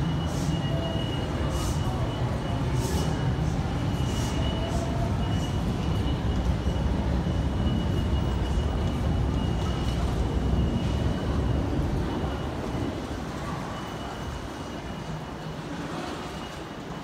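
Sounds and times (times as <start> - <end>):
low rumble of trains: 0.0 - 17.0.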